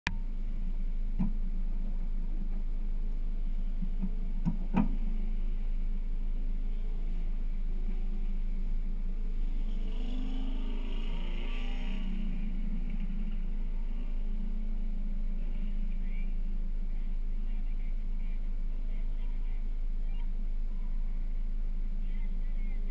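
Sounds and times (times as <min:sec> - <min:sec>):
car engine idling: 0:00.1 - 0:22.9.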